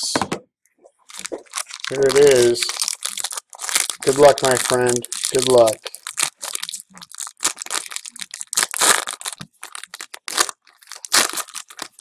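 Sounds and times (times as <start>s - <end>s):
foil wrapper crinkling: 1.0s - 12.0s
foil tearing: 1.1s - 12.0s.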